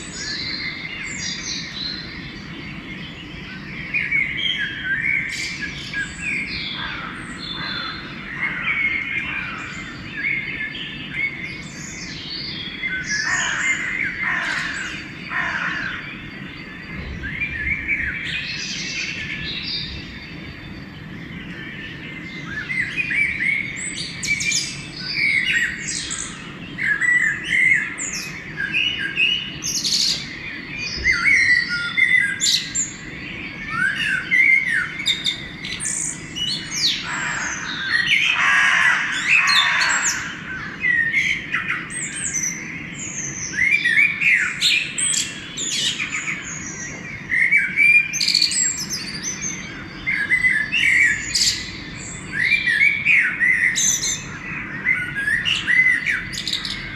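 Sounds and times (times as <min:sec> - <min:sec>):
long noisy bird call: 0:00.0 - 0:56.9
songbirds chirping and whistling: 0:00.0 - 0:56.9.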